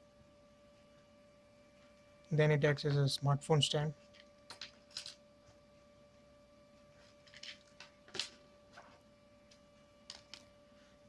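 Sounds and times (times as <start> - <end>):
faint high hum: 0.0 - 11.0.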